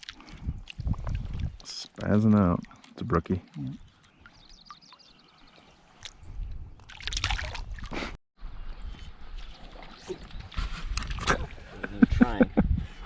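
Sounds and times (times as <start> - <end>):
water sloshing and splashing: 0.0 - 8.2, 9.2 - 11.8.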